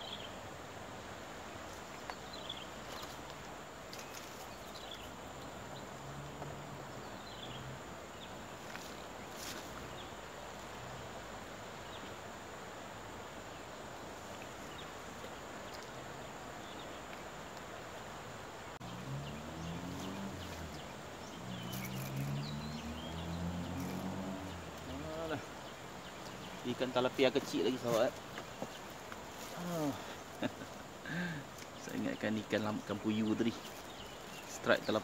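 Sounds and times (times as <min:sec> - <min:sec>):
insect and cricket chorus: 0:00.0 - 0:35.0.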